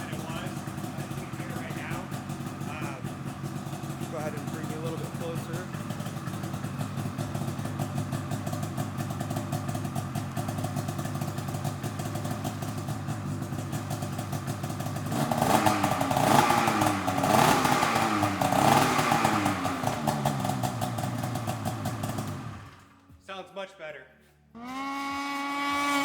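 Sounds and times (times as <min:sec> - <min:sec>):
snowmobile engine idling and revving: 0:00.0 - 0:23.0, 0:24.6 - 0:26.0.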